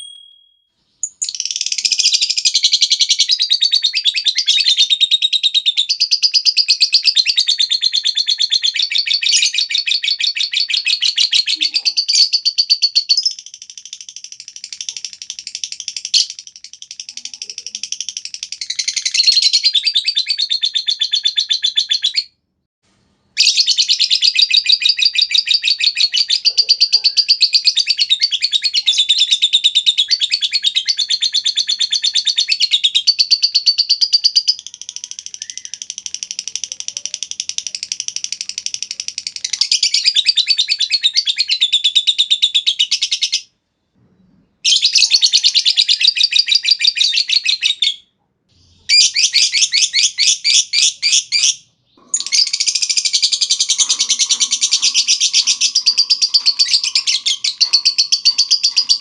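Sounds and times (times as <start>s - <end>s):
lovebird chattering shrill chirps: 1.0s - 22.3s, 23.4s - 43.5s, 48.8s - 59.0s.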